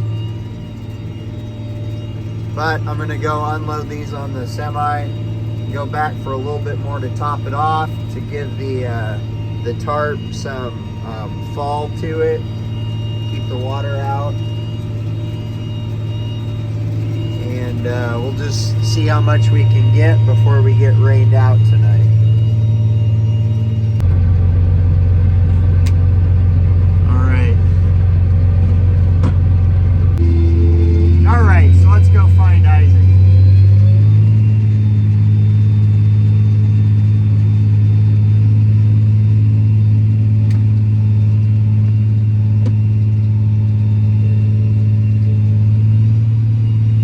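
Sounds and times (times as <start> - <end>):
tractor engine droning: 0.0 - 47.0.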